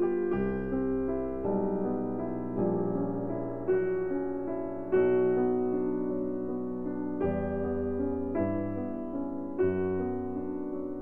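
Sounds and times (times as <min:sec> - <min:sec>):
slow gentle piano chords: 0:00.0 - 0:11.0.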